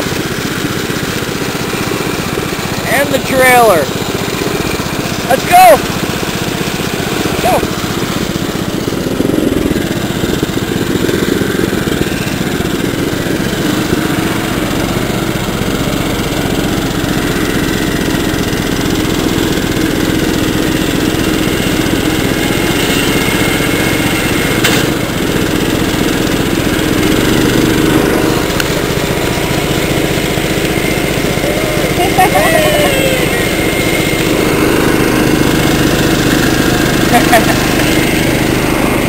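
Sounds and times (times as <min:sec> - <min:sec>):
small tractor engine running: 0:00.0 - 0:39.0.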